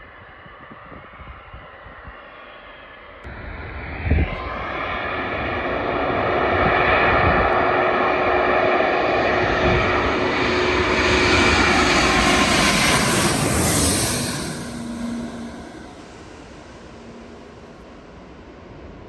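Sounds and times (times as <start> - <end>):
jet aircraft roar and whine: 0.0 - 19.0.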